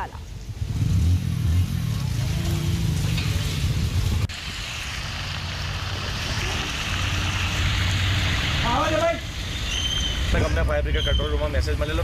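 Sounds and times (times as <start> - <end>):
vehicle engine rumbling: 0.0 - 12.0
heavy rain on floodwater: 0.2 - 10.4.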